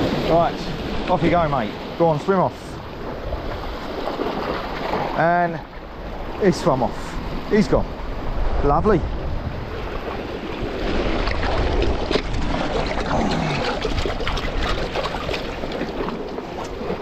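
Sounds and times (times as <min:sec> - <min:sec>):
sea waves washing against rocks: 0:00.0 - 0:17.0
wind buffeting microphone: 0:00.0 - 0:17.0.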